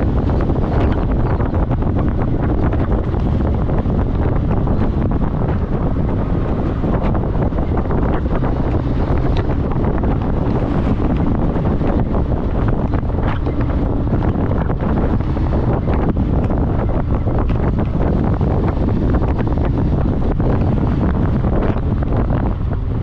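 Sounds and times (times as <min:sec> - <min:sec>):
wind buffeting the microphone: 0:00.0 - 0:23.0.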